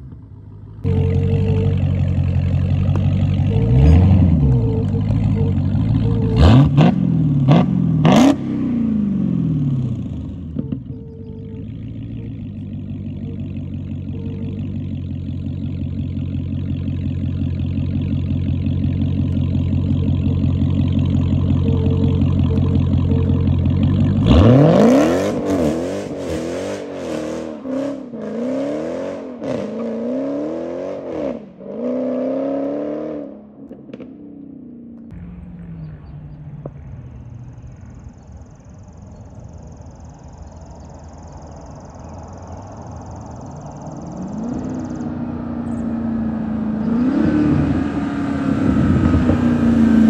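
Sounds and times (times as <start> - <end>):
car engine idling: 0.0 - 28.3, 34.4 - 50.0
car engine revving: 0.0 - 50.0.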